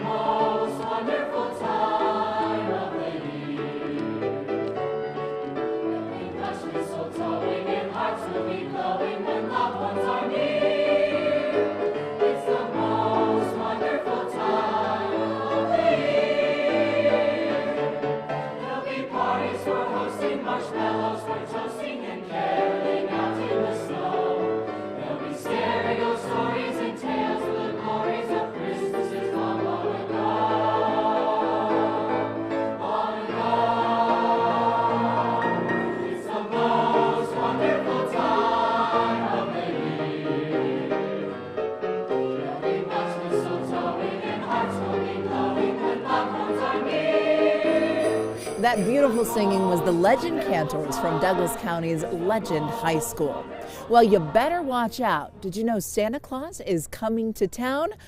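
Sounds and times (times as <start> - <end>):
choir singing in harmony: 0.0 - 55.2.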